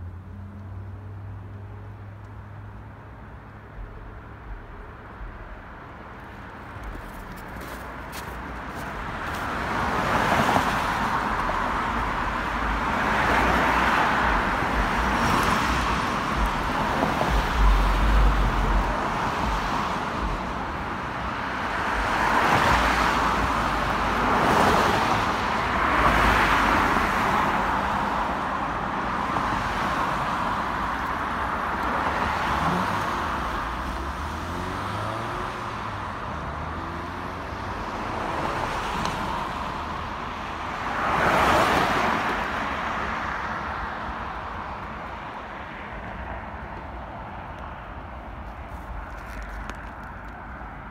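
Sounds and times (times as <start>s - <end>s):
cars passing: 0.0s - 50.9s.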